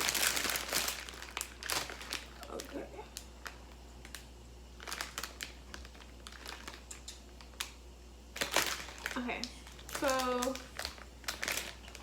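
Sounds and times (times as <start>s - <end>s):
plastic packet crinkling: 0.0s - 12.0s.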